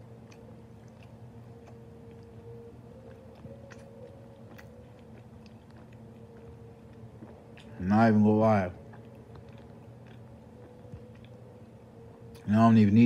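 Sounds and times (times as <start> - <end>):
person chewing: 0.0 - 12.5
low background hum: 0.0 - 13.0.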